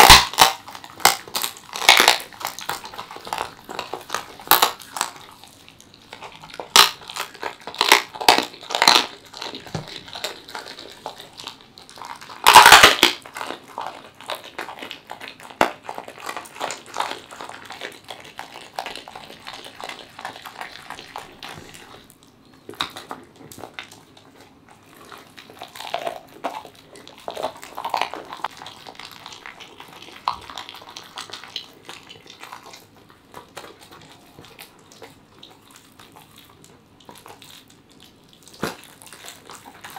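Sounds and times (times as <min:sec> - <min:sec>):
dog crunching on raw chicken: 0:00.0 - 0:39.9.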